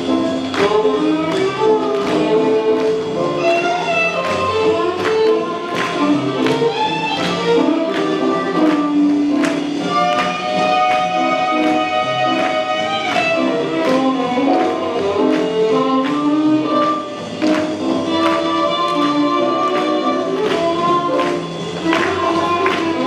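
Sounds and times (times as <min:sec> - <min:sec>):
swing jazz music: 0:00.0 - 0:23.0.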